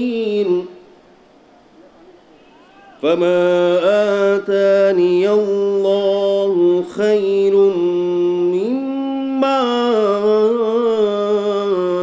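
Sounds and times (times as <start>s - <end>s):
man chanting melodically: 0.0s - 0.8s, 2.5s - 12.0s.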